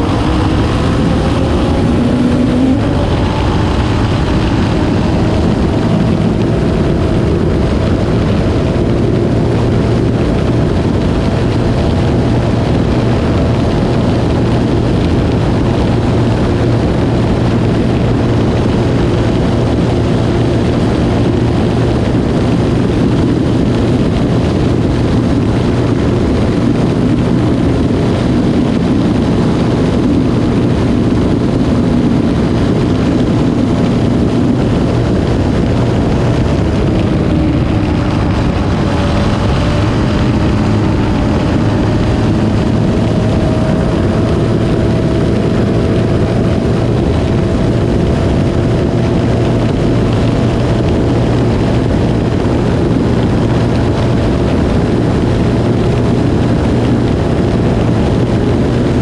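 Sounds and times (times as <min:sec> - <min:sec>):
engine running hard: 0:00.0 - 0:59.0
tyre noise on asphalt: 0:00.0 - 0:59.0
wind rushing: 0:00.0 - 0:59.0.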